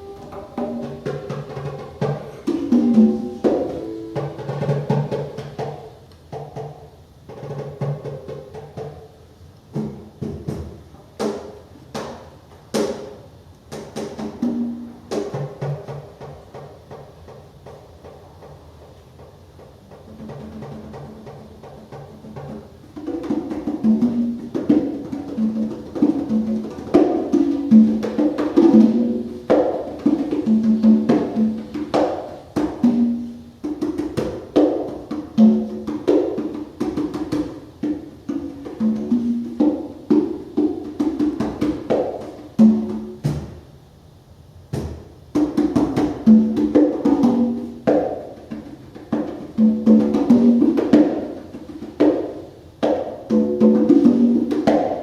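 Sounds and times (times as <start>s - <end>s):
conga drums: 0.0s - 55.0s.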